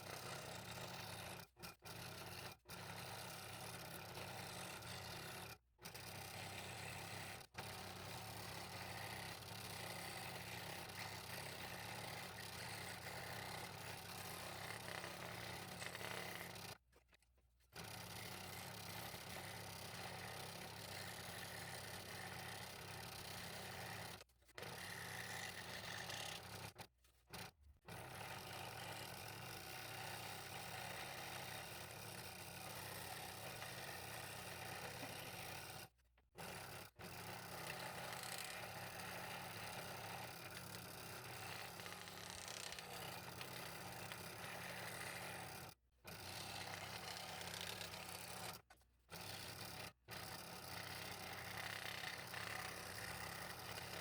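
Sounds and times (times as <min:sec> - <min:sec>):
scroll saw cutting wood: 0:00.0 - 0:54.0.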